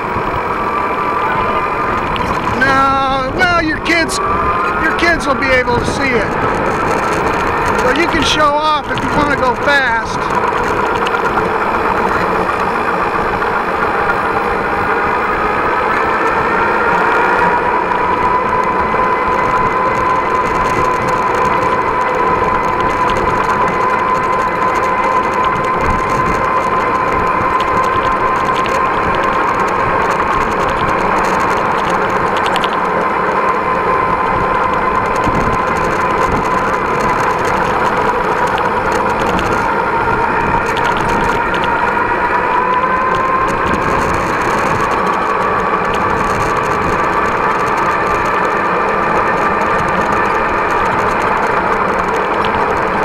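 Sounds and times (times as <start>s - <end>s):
electric hub motor whining: 0.0s - 53.0s
tyre and road noise: 0.0s - 53.0s.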